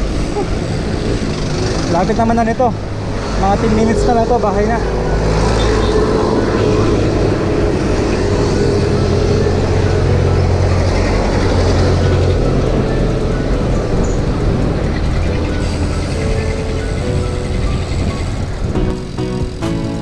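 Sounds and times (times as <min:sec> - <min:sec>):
motor traffic passing: 0:00.0 - 0:20.0
road noise: 0:00.0 - 0:20.0
wind rush on microphone: 0:00.0 - 0:20.0.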